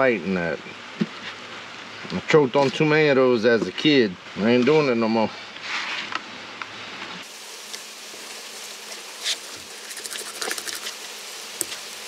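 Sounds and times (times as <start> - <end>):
steady buzzing hiss: 0.0 - 12.0.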